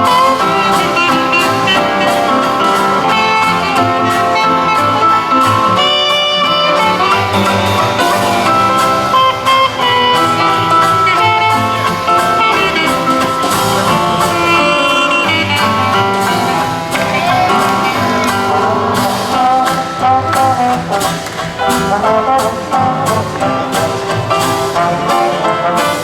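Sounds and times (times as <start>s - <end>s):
jazz band playing ballad: 0.0s - 26.0s.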